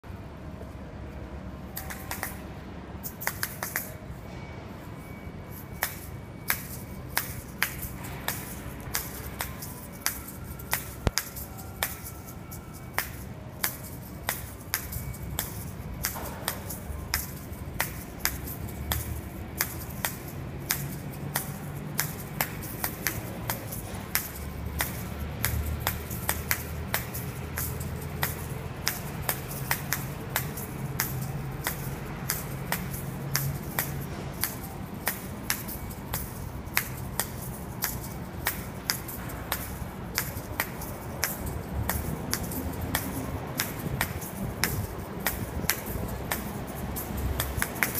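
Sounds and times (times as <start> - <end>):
hard shells clacking: 5.0 - 47.9.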